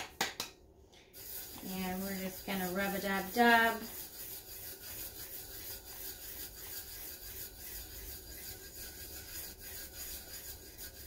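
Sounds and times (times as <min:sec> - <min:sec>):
hand rubbing glitter: 0:01.1 - 0:11.0.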